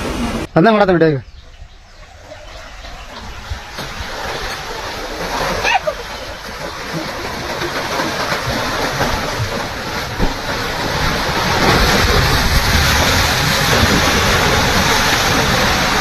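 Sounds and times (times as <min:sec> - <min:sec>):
rushing water: 0:01.4 - 0:16.0.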